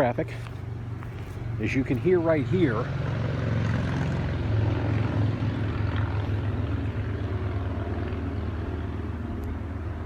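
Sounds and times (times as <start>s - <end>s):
vehicle driving past: 0.7s - 10.0s.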